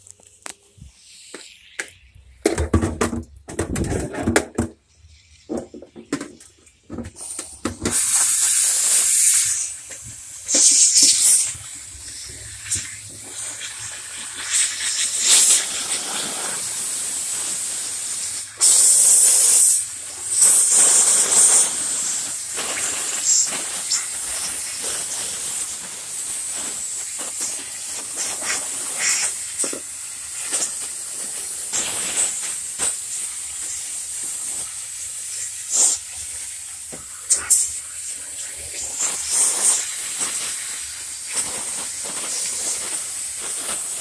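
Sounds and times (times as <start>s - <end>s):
steady hissing with bursts: 0.0s - 2.6s, 4.8s - 44.0s.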